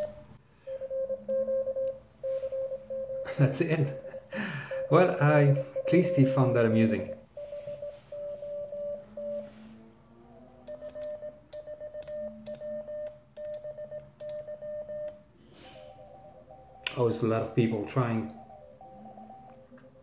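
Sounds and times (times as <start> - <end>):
higher-pitched morse code beeps: 0.0 - 9.6, 10.7 - 20.0
morse code beeps: 0.0 - 9.7, 10.7 - 20.0.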